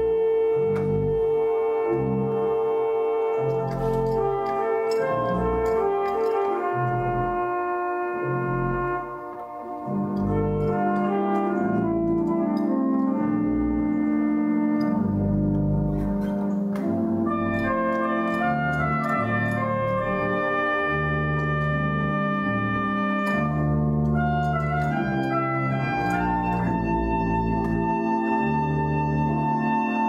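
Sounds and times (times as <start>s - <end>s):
organ chords: 0.0s - 30.0s
organ pedal bass line: 0.0s - 30.0s.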